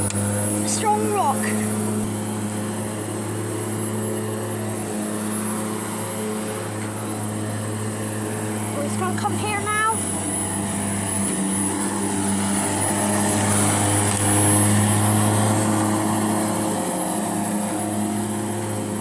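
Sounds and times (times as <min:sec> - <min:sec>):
grass strimmer running: 0:00.0 - 0:19.0.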